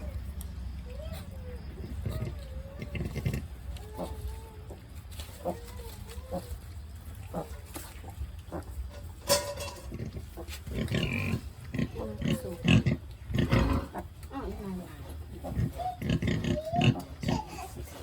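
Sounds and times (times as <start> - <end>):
pigs grunting and squeaking: 0.0 - 18.0.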